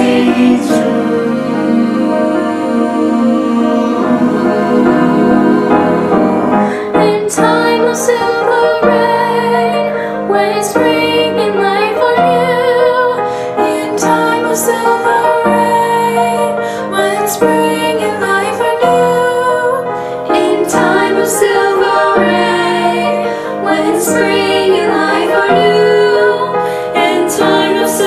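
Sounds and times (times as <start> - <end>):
choir singing: 0.0 - 28.0
piano: 0.0 - 28.0.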